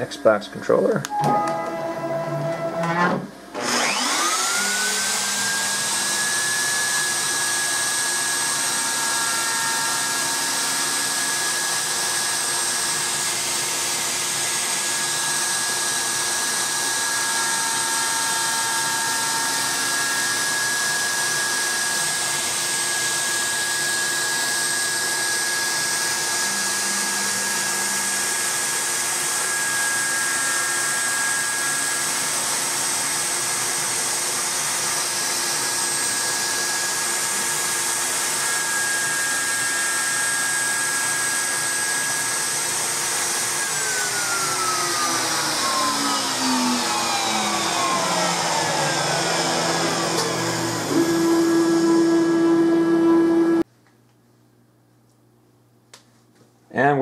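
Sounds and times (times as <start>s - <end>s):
router spindle high whine: 0.0s - 53.7s
router bit cutting wood: 1.1s - 53.6s.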